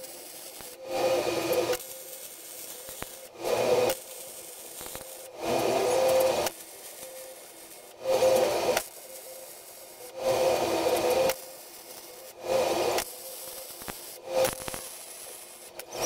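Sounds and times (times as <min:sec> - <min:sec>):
welding arc crackling: 0:00.0 - 0:16.0.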